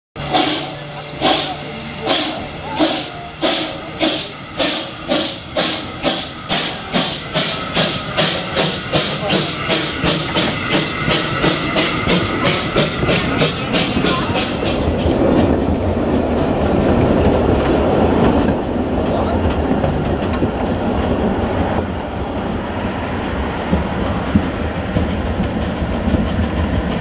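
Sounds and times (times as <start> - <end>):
steam locomotive exhaust chuffing: 0.2 - 27.0
train rumbling and rattling on rails: 0.2 - 27.0.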